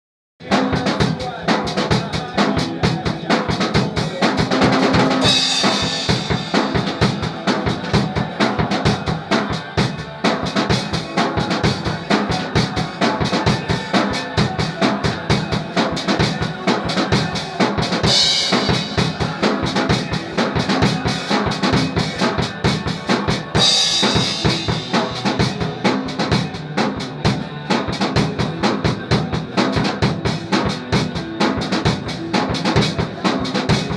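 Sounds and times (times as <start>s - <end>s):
drum kit playing fast: 0.4s - 33.9s.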